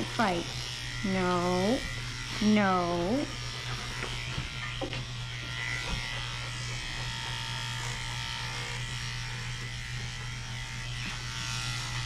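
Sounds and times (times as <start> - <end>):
electric clippers buzzing: 0.0 - 12.0.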